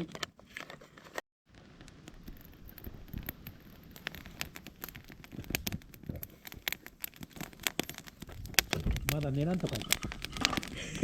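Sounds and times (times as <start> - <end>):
campfire crackling and popping: 1.5 - 11.0.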